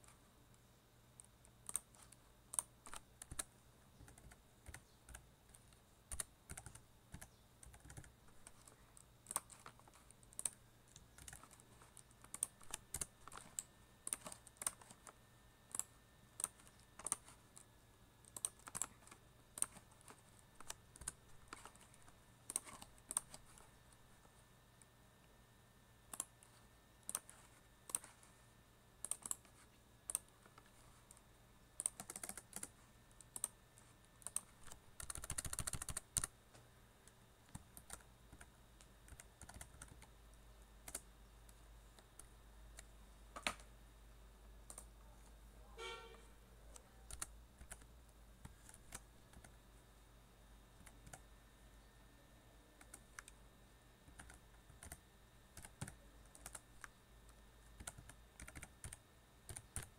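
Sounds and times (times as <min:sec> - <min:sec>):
faint keyboard typing: 0:00.0 - 0:25.4, 0:26.0 - 0:43.8, 0:44.5 - 0:49.9, 0:50.7 - 0:51.4, 0:52.6 - 0:59.9.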